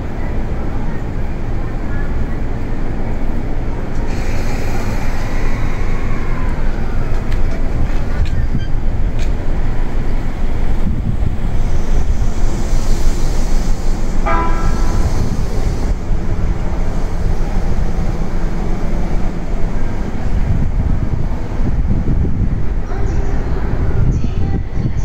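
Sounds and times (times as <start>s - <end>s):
electric train rumbling: 0.0s - 25.0s.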